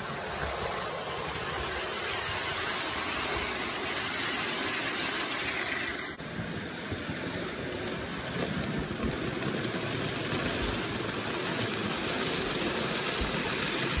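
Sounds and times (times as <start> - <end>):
model train motor whirring: 0.0 - 14.0.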